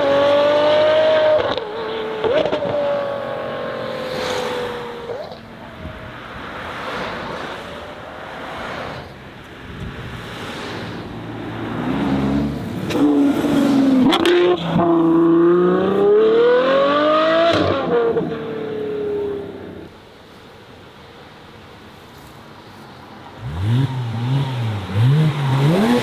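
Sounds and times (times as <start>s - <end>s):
car accelerating hard: 0.0s - 9.1s, 10.0s - 19.9s, 23.4s - 26.0s.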